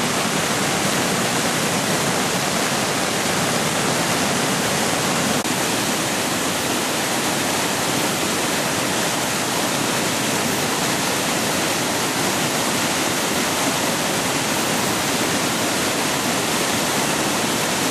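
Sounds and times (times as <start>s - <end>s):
floodwater rushing: 0.0s - 17.9s.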